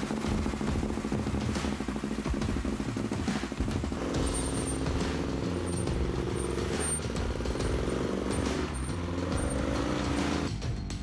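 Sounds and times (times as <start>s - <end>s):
atv engine running: 0.0s - 10.6s.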